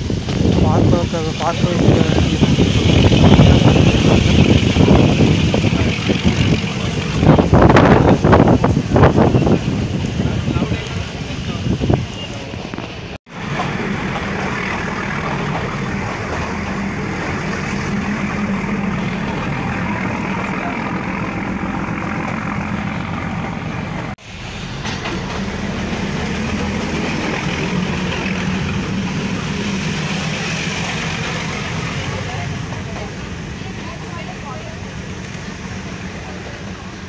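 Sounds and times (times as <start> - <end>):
train carriage rumbling on track: 0.0 - 37.0.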